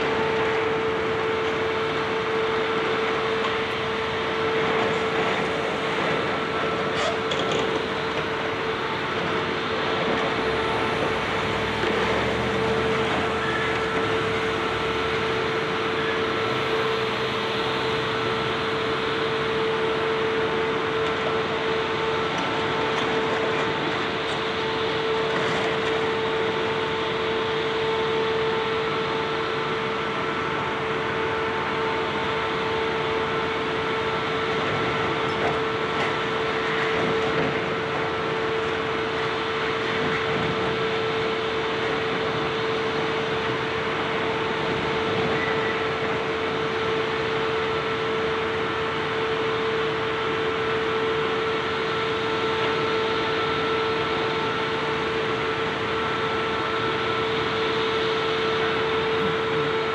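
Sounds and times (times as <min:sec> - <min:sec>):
constant machine whine: 0:00.0 - 0:59.9
demolition machinery running: 0:00.0 - 0:59.9.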